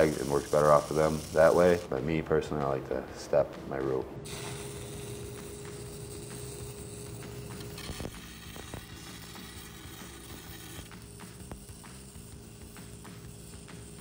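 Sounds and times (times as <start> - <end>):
welding arc crackling: 0.0 - 2.0, 4.3 - 14.0
steady hum: 0.0 - 14.0.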